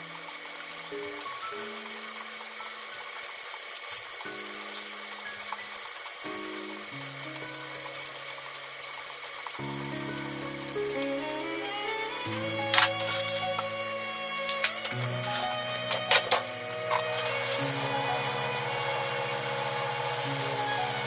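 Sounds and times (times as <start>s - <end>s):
food sizzling in a frying pan: 0.0s - 12.7s, 13.5s - 21.0s.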